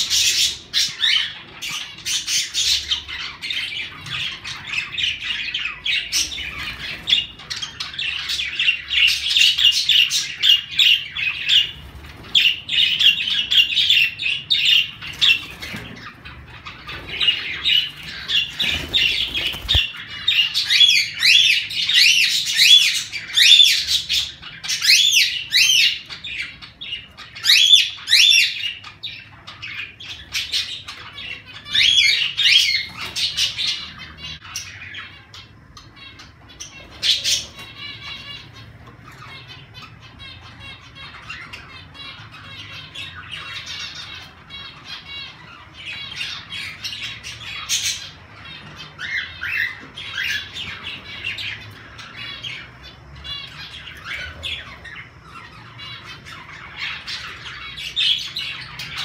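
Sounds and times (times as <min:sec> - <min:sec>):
birds chirping and chattering: 0:00.0 - 0:59.0.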